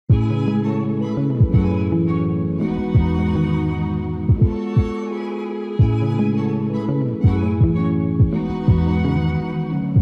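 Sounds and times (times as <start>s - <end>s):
low soft thumps: 0.1s - 10.0s
sustained string notes: 0.1s - 10.0s.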